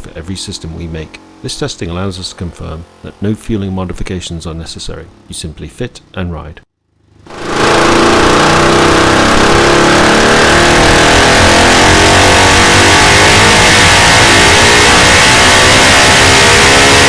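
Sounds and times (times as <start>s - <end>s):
motorcycle engine revving under load: 0.0s - 5.6s, 6.9s - 17.0s.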